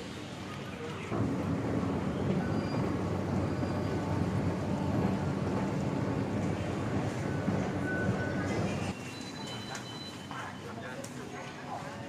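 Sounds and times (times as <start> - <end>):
metro train rumble inside carriage: 0.2 - 10.7.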